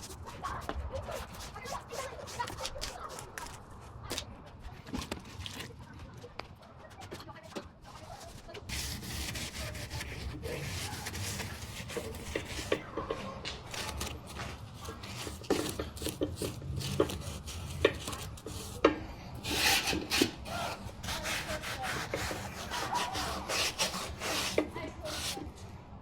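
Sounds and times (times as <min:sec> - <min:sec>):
scratchy rubbing: 0:00.0 - 0:04.3, 0:06.9 - 0:25.5.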